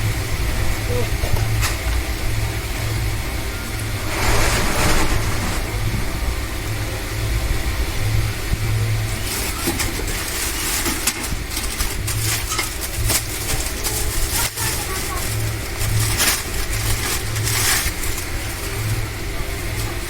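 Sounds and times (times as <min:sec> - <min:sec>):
airflow buffeting microphone: 0:00.0 - 0:20.0
electric fan motor hum: 0:00.0 - 0:20.0.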